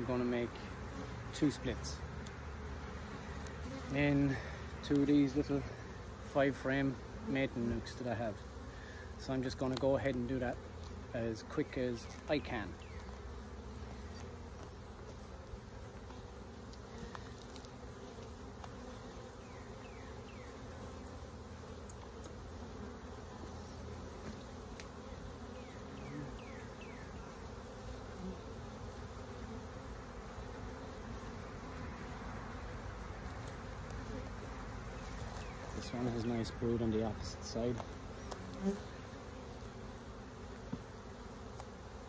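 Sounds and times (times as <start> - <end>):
honeybee colony humming: 0.0 - 42.0.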